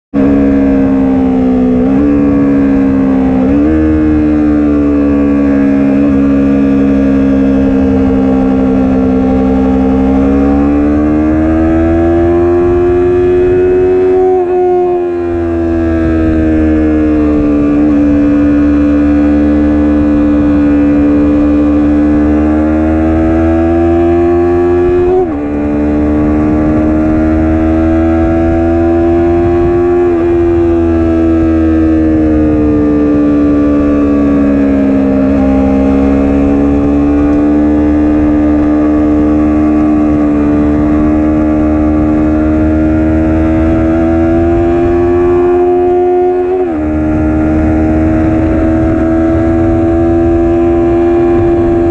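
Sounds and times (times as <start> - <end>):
motorcycle engine accelerating: 0.1 - 51.9.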